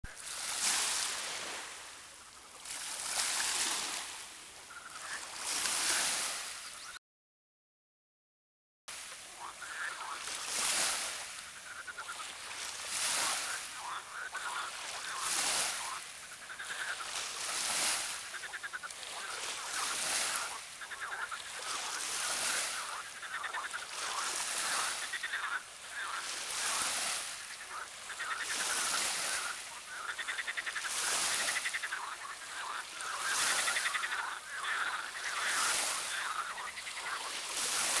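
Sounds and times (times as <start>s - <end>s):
frogs croaking: 0.2s - 7.0s, 9.0s - 38.0s.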